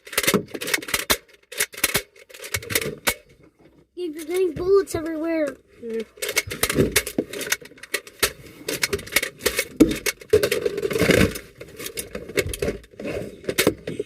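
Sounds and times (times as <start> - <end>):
rustling: 0.0 - 14.0
sharp clicks and knocks: 0.0 - 14.0.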